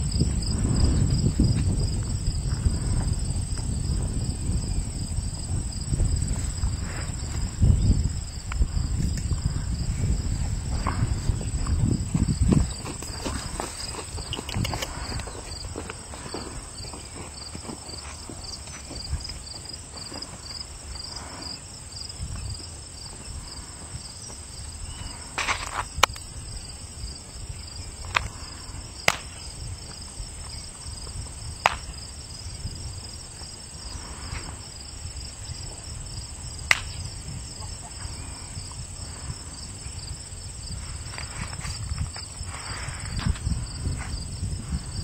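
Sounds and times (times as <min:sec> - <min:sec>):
crickets chirping: 0:00.0 - 0:45.0.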